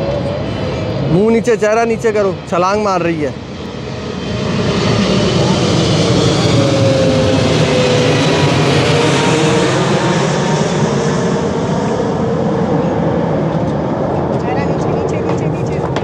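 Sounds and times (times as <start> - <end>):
large engine roaring: 0.0 - 16.0.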